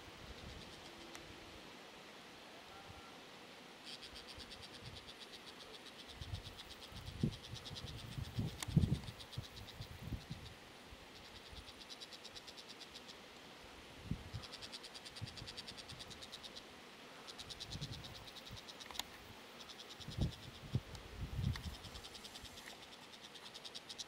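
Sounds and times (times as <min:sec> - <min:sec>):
insects trilling: 0:00.3 - 0:01.2, 0:03.8 - 0:13.4, 0:14.0 - 0:24.0.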